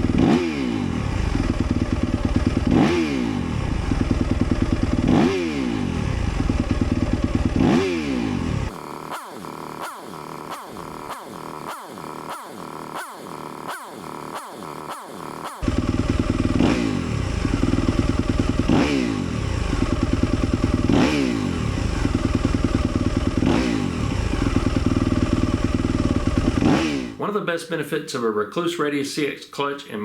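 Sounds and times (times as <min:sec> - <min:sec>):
motorcycle engine revving and idling: 0:00.0 - 0:27.2.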